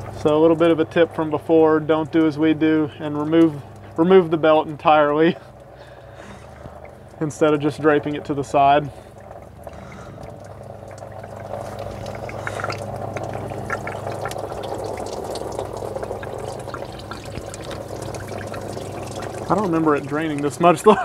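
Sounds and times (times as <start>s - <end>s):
coolant pouring out: 0.0s - 21.0s.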